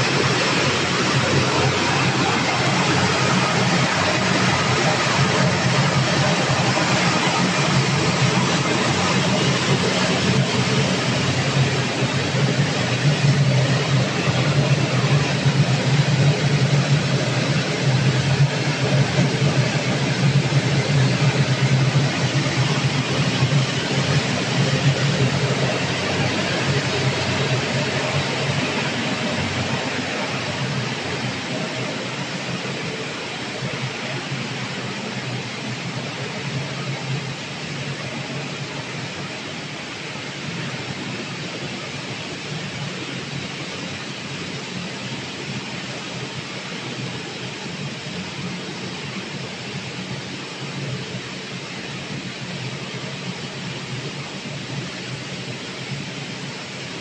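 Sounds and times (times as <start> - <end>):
machinery hum with hiss: 0.0 - 57.0.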